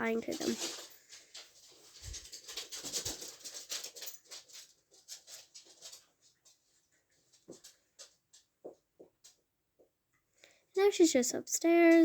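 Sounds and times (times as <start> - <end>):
dogs' claws scratching and tapping: 0.0 - 9.9.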